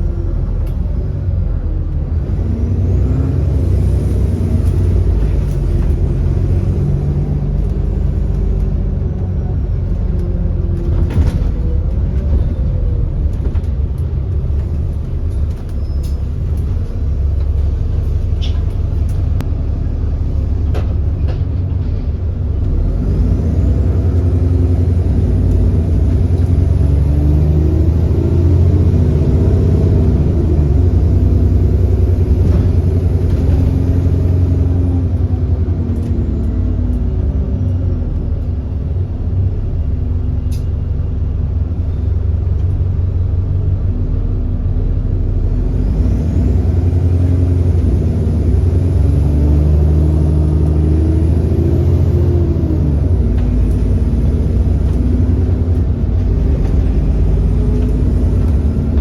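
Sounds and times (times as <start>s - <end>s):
bus diesel engine rumbling: 0.0s - 59.0s.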